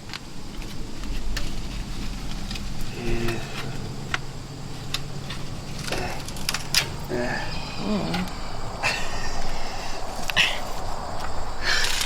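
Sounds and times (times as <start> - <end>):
low rumble: 0.0 - 12.0
low steady hum: 0.0 - 12.0.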